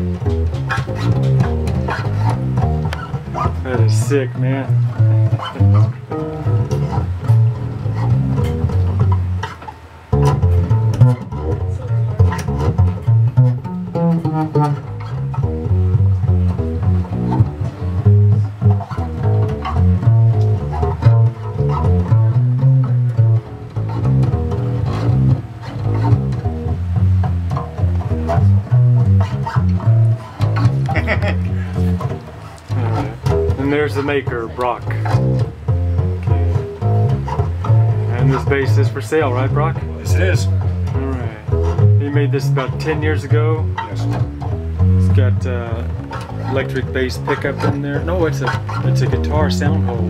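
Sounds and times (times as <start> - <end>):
amplified double bass plucked: 0.0 - 50.0.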